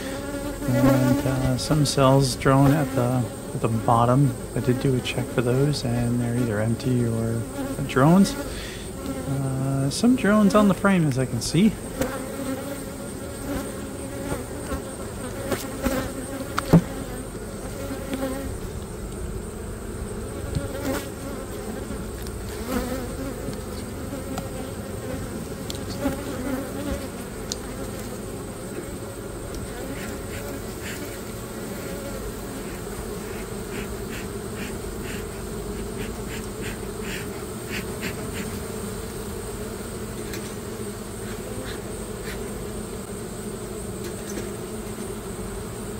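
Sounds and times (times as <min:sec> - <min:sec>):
honey bees buzzing: 0:00.0 - 0:45.9.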